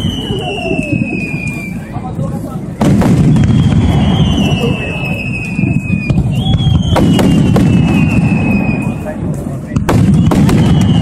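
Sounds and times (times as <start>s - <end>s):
whistling firework shells: 0.0s - 2.0s, 2.8s - 9.2s, 9.8s - 11.0s
firework bangs: 0.0s - 11.0s
fireworks rumbling: 0.0s - 11.0s.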